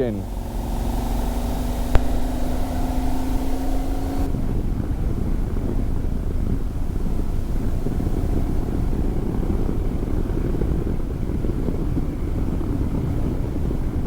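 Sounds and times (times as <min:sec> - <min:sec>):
motorcycle engine running: 0:00.0 - 0:14.0
wind over microphone: 0:00.0 - 0:14.0.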